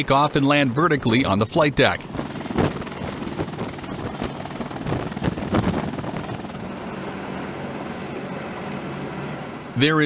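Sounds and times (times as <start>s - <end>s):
helicopter hovering: 0.0s - 9.8s.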